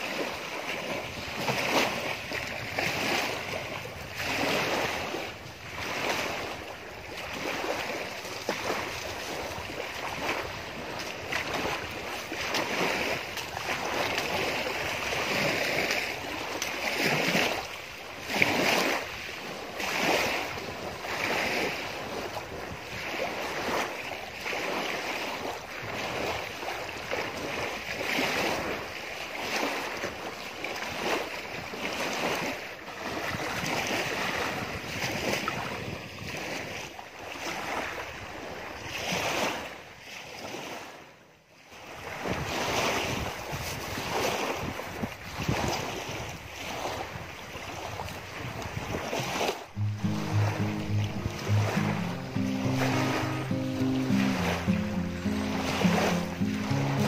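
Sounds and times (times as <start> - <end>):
waves washing against shore: 0.0 - 41.1, 41.8 - 57.0.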